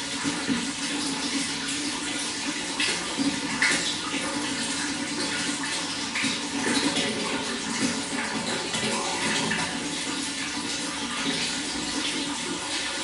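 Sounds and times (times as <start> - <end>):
water gurgling and splashing: 0.0 - 13.0
water running: 0.0 - 13.0.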